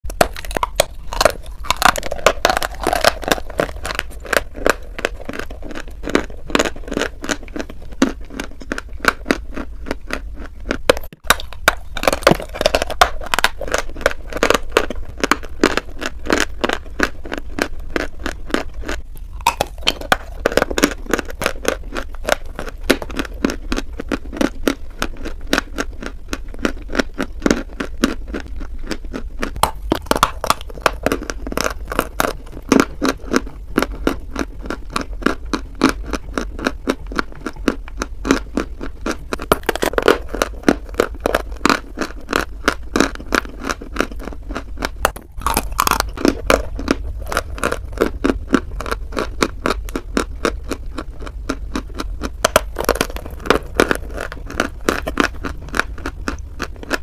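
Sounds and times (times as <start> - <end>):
chewing crunchy chalk: 0.1 - 57.0.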